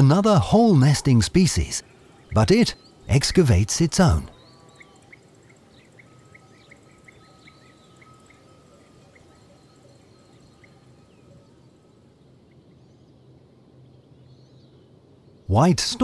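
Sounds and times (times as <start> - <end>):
thin steady high tone: 0.0 - 14.2
bird chirps: 0.0 - 16.0
faint outdoor ambience: 0.0 - 16.0.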